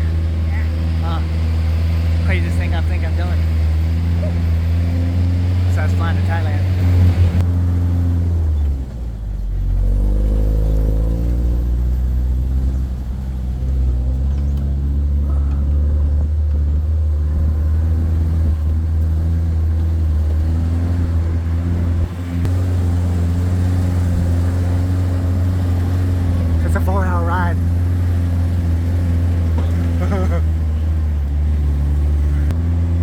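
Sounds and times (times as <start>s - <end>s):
truck engine droning: 0.0s - 33.0s.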